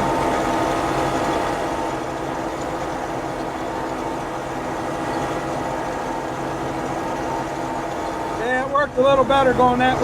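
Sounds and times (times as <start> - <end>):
combine harvester engine and threshing drone: 0.0 - 10.0.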